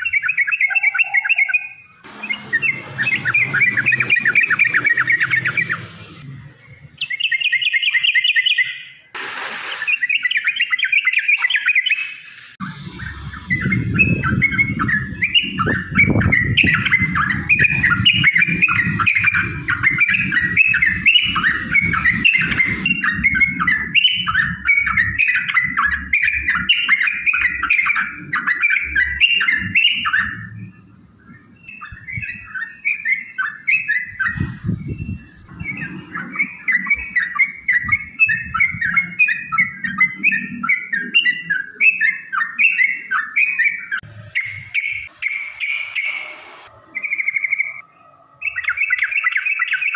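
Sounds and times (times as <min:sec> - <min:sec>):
birds chattering song: 0:00.0 - 0:49.9.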